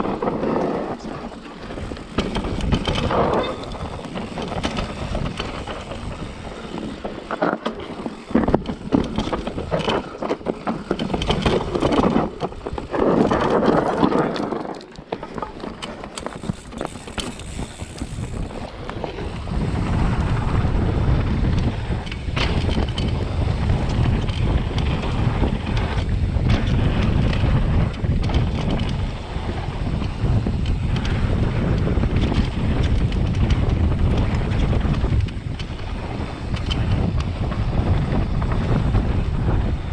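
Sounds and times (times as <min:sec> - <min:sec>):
bike tyres rattling over rough ground: 0:00.0 - 0:39.9
wind buffeting microphone: 0:00.0 - 0:39.9.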